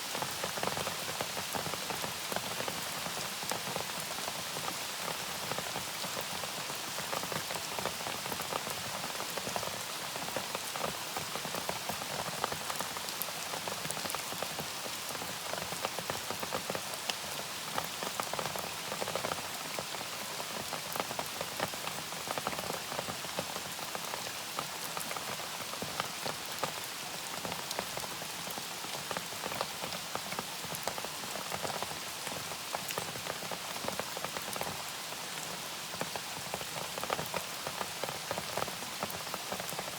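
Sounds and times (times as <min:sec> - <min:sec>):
rain drops hitting surface: 0:00.0 - 0:39.9
rain hiss: 0:00.0 - 0:39.9.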